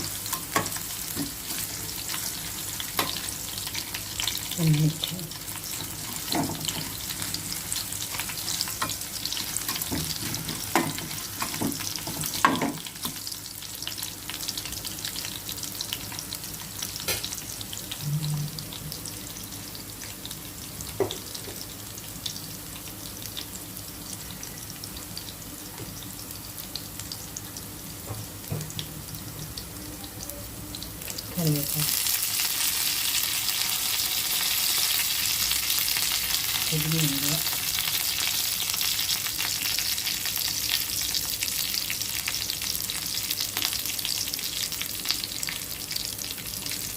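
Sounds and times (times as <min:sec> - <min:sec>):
spices sizzling in hot oil: 0:00.0 - 0:46.9.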